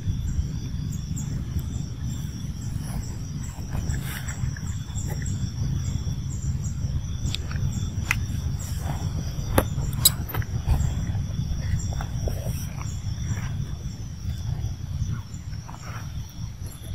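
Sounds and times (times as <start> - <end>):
high-pitched insect drone: 0.0 - 16.9
low rumble: 0.0 - 16.9
sharp clicks and chirps: 0.6 - 16.9.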